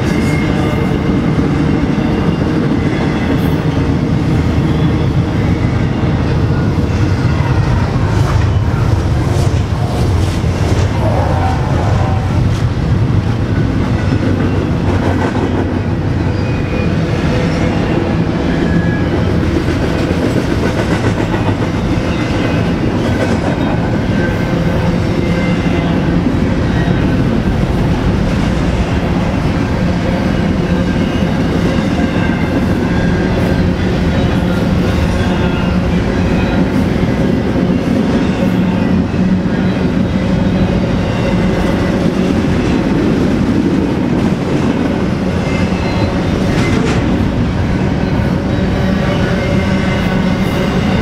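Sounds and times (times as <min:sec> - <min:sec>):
freight train wheels rumbling: 0:00.0 - 0:51.0.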